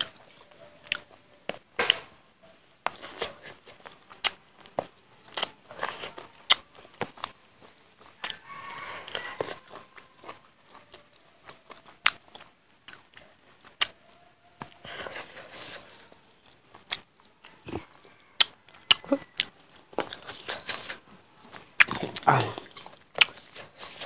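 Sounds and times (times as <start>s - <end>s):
chewing and lip smacks: 0.0s - 1.6s, 2.8s - 24.0s.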